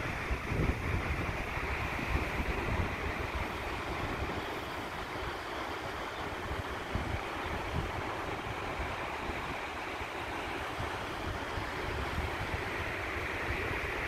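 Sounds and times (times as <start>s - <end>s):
whitewater rushing: 0.0s - 14.0s
wind gusting on microphone: 0.0s - 14.0s.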